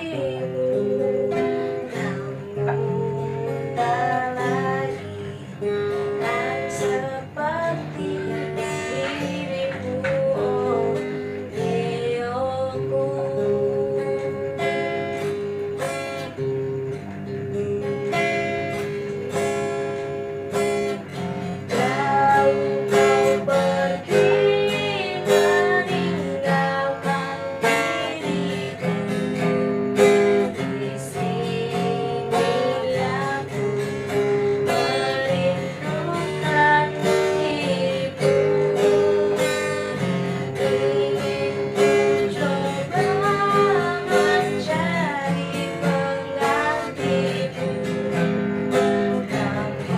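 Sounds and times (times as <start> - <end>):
acoustic guitar: 0.0 - 49.9
person singing: 0.0 - 49.9.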